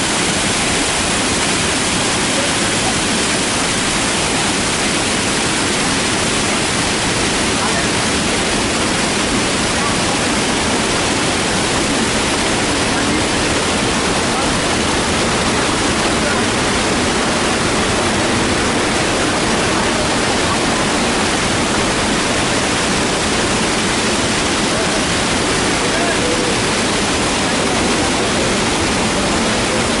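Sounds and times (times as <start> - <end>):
river rushing through rapids: 0.0 - 30.0.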